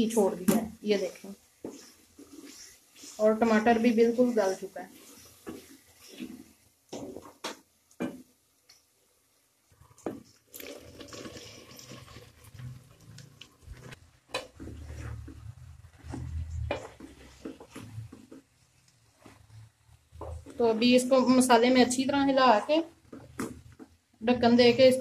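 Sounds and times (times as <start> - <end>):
wooden spoon scraping metal pot: 0.9 - 7.4, 10.0 - 23.8.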